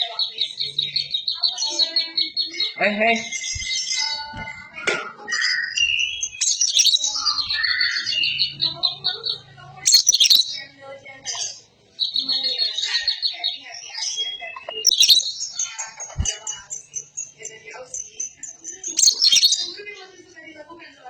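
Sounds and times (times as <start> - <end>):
bird singing chirps and trills: 0.0 - 20.4.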